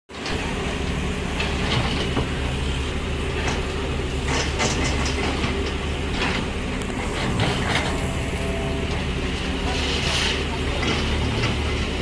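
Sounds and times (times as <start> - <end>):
diesel engine running: 0.1 - 12.0.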